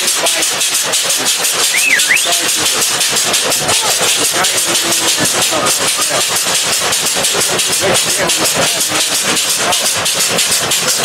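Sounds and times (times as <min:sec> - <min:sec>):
train passing with pulsing noise: 0:00.0 - 0:11.0.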